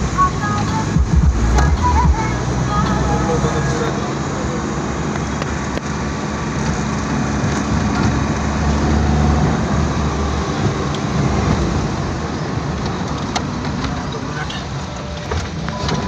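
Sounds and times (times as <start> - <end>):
road noise: 0.0 - 16.0
vehicle engine hum: 0.0 - 16.0.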